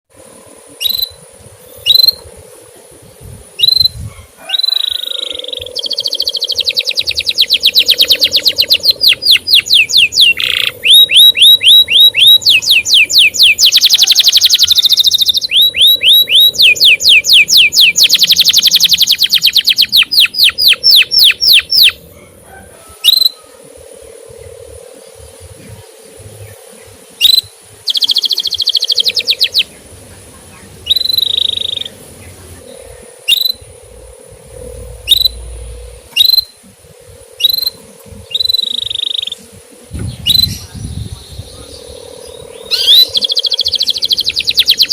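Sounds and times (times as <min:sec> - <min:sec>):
canary singing chirps and trills: 0:00.7 - 0:44.9.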